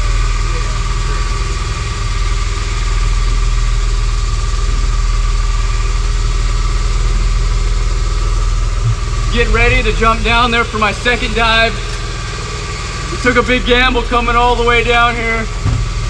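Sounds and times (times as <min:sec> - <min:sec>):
engine idling with whine: 0:00.0 - 0:16.0.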